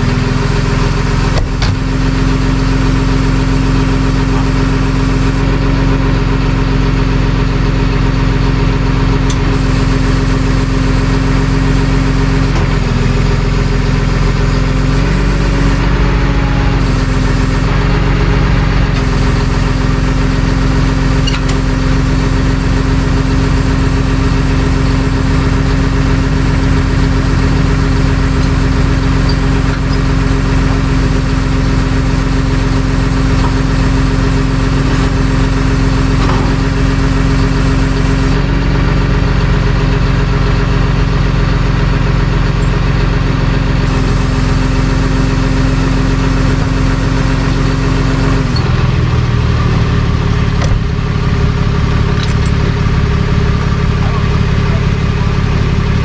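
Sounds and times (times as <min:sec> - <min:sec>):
truck engine humming: 0:00.0 - 0:56.0.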